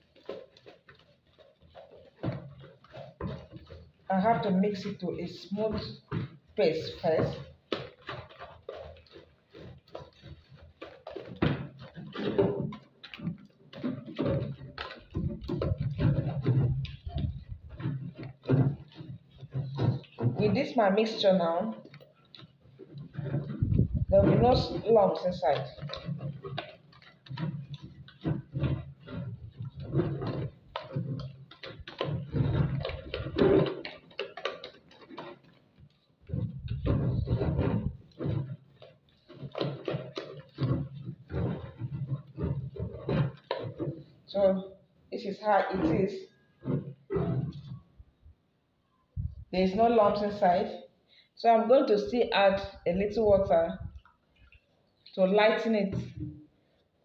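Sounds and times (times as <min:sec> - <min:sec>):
hand squelching batter in bowl: 0:00.0 - 0:57.0.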